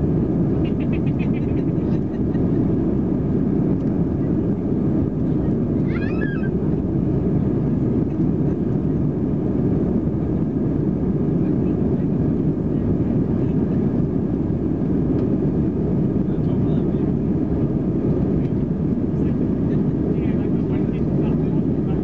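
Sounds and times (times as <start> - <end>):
jet engine cabin rumble: 0.0 - 22.0.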